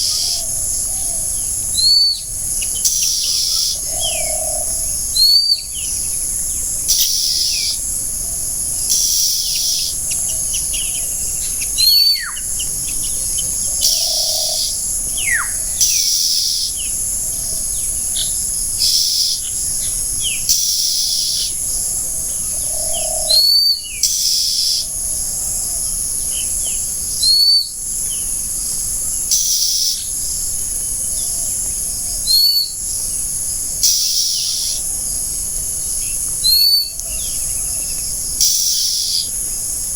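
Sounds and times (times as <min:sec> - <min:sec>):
forest birds calling: 0:00.0 - 0:39.9
high-pitched insect hiss: 0:00.0 - 0:39.9.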